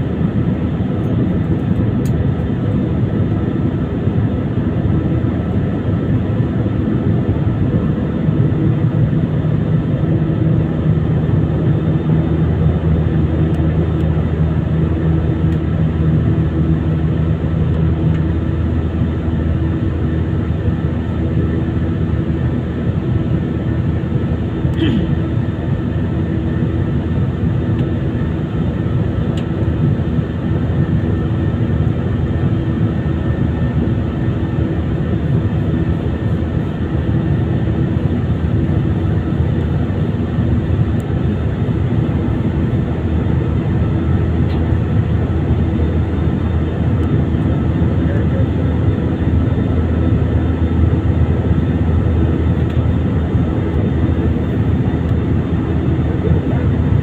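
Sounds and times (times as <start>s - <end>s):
jet engines rumbling: 0.0s - 57.0s.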